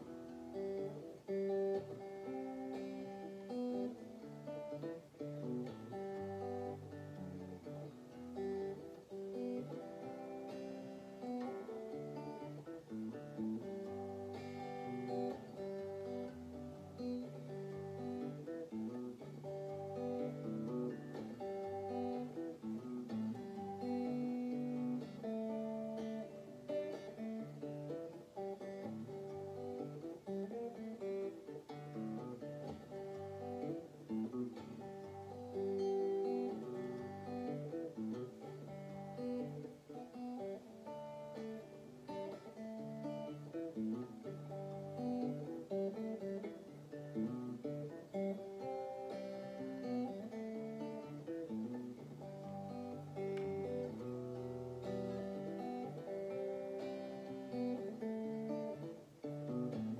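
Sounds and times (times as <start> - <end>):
electric guitar played with a pick: 0.0 - 59.9.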